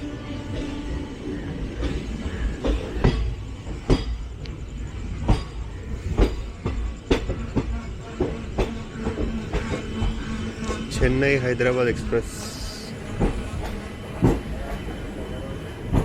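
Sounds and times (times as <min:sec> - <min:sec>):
train wheels rumbling on track: 0:00.0 - 0:16.0
wheels clacking over rail joints: 0:00.1 - 0:16.0.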